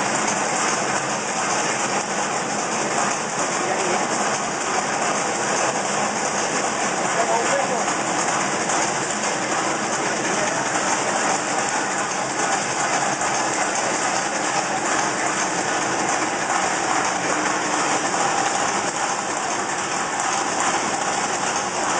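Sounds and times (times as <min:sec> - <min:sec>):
production line machinery running: 0:00.0 - 0:21.9.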